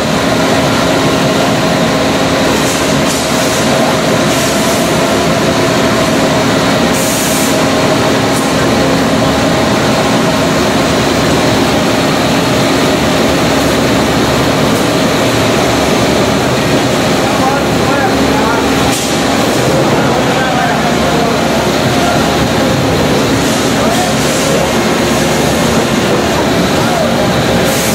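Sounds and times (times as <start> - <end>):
machinery rumble and hum: 0.0 - 27.9.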